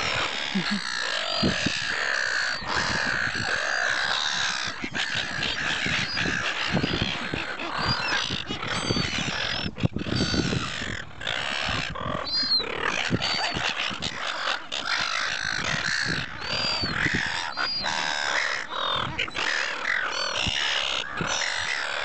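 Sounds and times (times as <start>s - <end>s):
gulls squawking: 0.0s - 22.0s.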